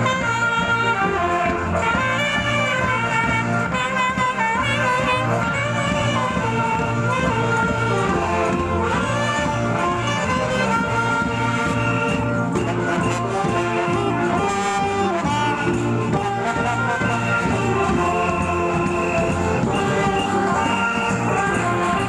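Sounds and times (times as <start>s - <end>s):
brass band playing: 0.0s - 22.0s
low drum beat: 0.0s - 22.0s.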